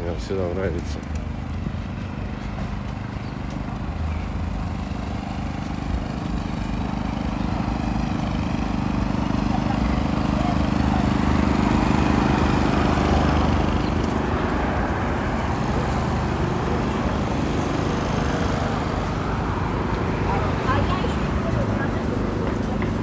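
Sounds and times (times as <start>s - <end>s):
road noise: 0.0s - 23.0s
vehicle engine droning: 0.0s - 23.0s.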